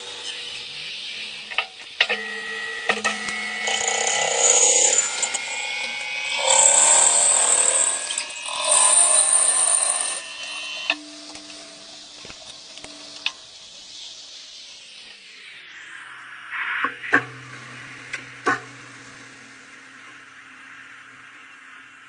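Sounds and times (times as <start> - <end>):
high hissing of cutting tool: 0.0 - 22.0
lathe whine: 0.0 - 22.0.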